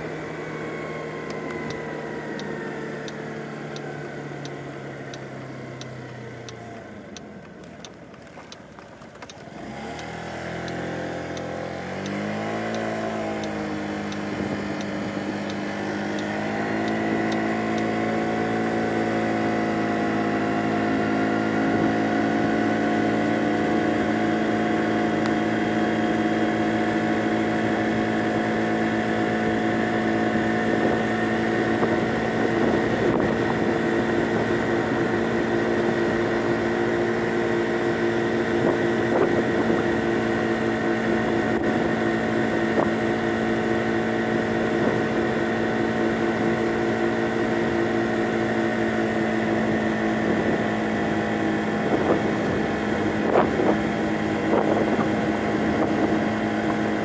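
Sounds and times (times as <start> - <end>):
scooter engine humming: 0.0 - 57.0.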